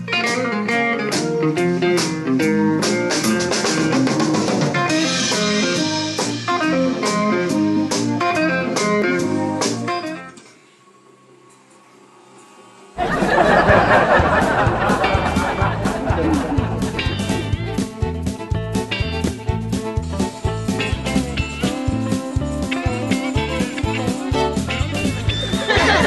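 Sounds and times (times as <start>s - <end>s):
guitar-led music with drums: 0.0s - 10.5s, 13.0s - 26.0s.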